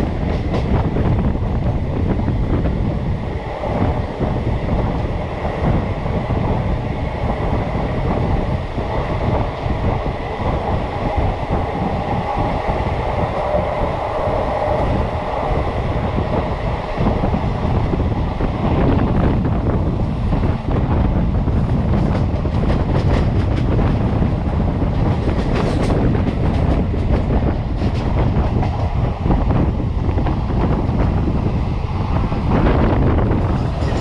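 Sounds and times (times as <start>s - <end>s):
train wheels rumbling on rails: 0.0s - 34.0s
wind on microphone: 0.0s - 34.0s.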